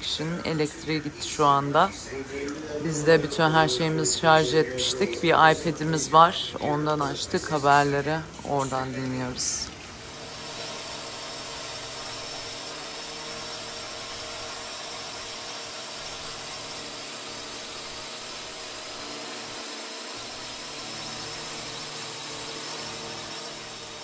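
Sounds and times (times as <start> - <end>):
aircraft engine drone: 0.0 - 24.0.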